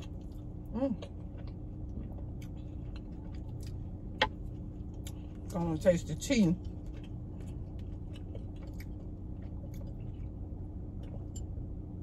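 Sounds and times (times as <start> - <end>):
low hum inside a car: 0.0 - 12.0.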